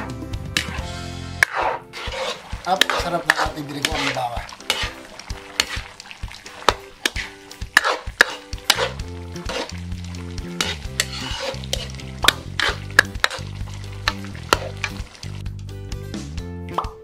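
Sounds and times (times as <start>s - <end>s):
soft background music: 0.0s - 17.0s
ladle scraping metal wok: 0.6s - 15.4s
stew simmering: 1.4s - 15.7s.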